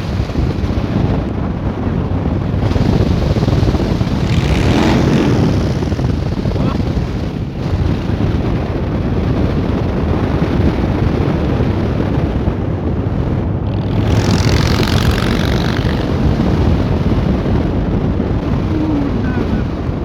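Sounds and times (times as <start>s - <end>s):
motorcycle engine drone: 0.0s - 20.0s
wind rush on microphone: 0.0s - 20.0s.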